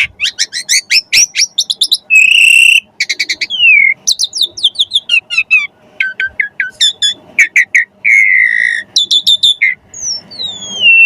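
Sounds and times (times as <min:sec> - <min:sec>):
starling singing: 0:00.0 - 0:11.0.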